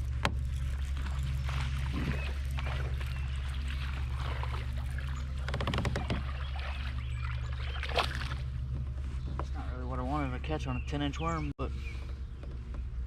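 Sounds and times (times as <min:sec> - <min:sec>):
steady low hum: 0:00.0 - 0:13.0
water sloshing around boat: 0:00.0 - 0:13.0.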